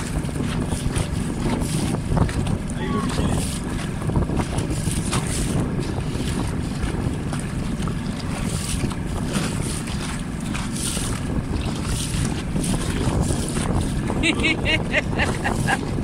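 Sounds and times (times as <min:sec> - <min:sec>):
water noise: 0:00.0 - 0:16.0
wind buffeting microphone: 0:00.0 - 0:16.0.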